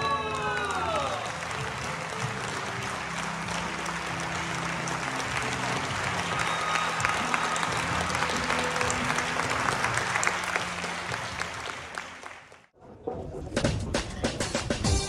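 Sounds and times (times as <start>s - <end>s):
audience applauding: 0.0s - 12.7s
music: 0.0s - 15.0s.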